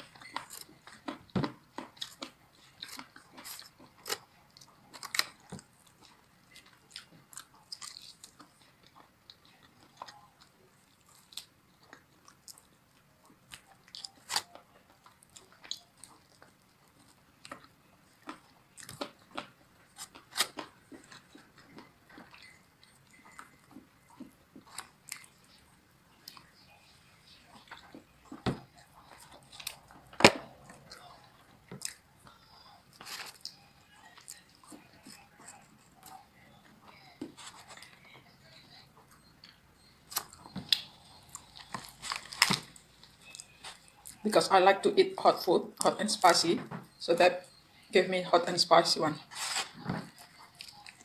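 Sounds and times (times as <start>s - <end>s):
person chewing crunchy food: 0.0s - 38.1s, 39.0s - 44.3s, 49.3s - 51.0s.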